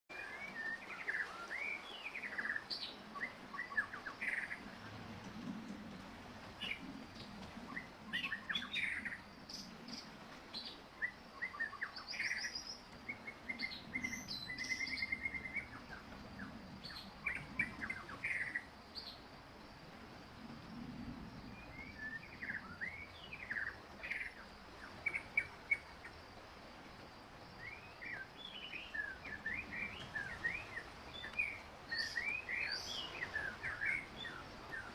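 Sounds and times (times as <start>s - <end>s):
faint background hiss: 0.1s - 34.9s.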